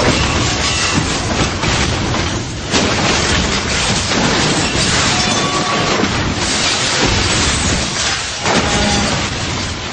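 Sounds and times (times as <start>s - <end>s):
truck crashing and scraping: 0.0s - 9.9s.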